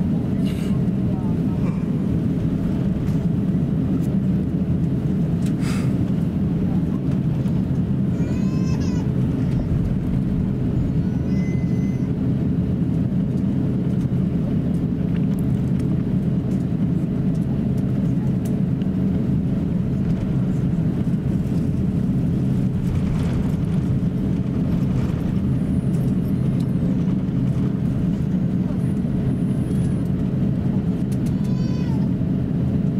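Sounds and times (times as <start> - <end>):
airliner cabin rumble while taxiing: 0.0 - 32.9.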